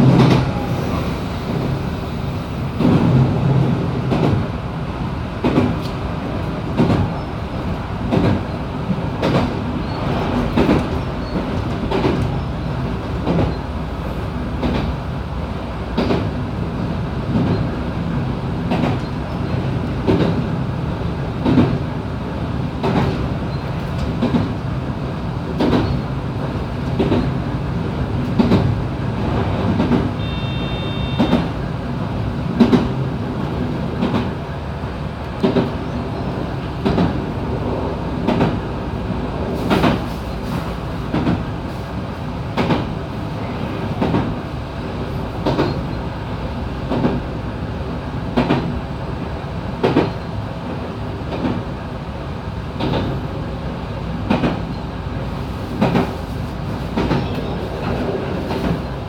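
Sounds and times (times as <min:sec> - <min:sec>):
train running gear rumble: 0:00.0 - 0:59.0.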